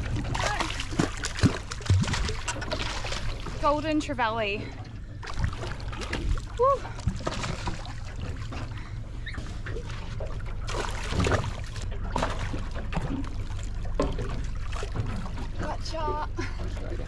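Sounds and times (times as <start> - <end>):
fish splashing and thrashing: 0.0 - 17.0
steady low hum: 0.0 - 17.0
water sloshing against hull: 0.0 - 17.0.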